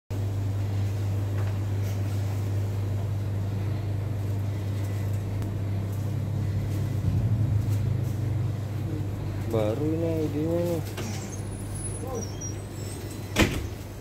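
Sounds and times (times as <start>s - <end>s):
low machine hum: 0.1s - 14.0s.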